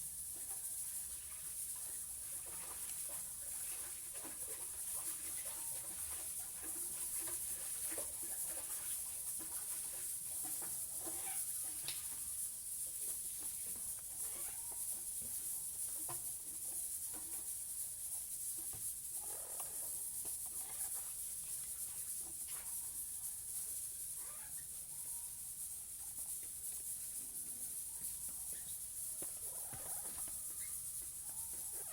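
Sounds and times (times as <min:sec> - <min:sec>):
steady high hiss: 0:00.0 - 0:31.9.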